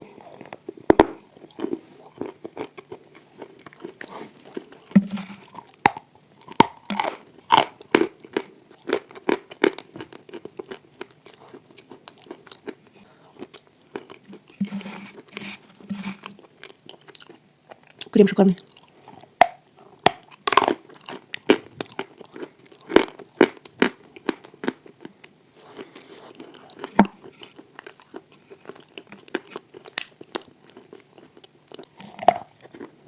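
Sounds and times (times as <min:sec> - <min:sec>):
crunching and chewing chalk: 0:00.0 - 0:33.0.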